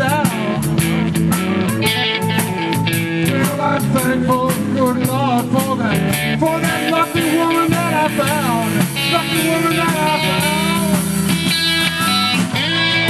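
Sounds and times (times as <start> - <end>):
electric blues band playing: 0.0 - 13.0
blues harmonica: 0.1 - 4.0, 6.0 - 13.0.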